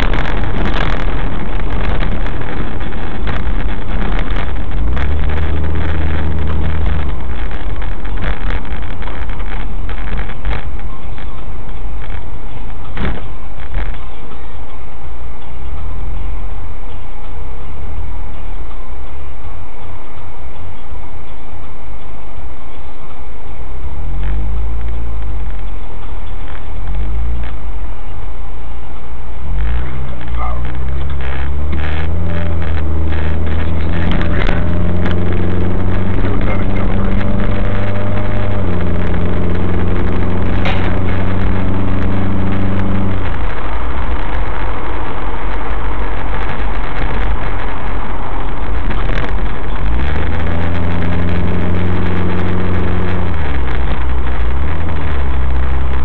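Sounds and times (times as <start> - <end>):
car engine accelerating: 0.0 - 20.2, 21.2 - 56.0
road noise: 0.0 - 56.0.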